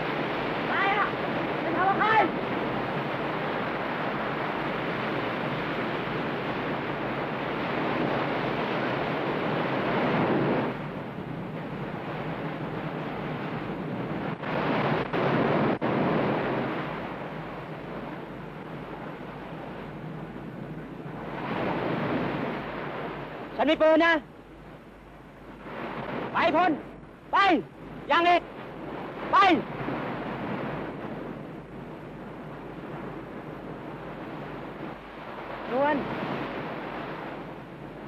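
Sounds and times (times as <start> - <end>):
surf rushing on shore: 0.0 - 38.0.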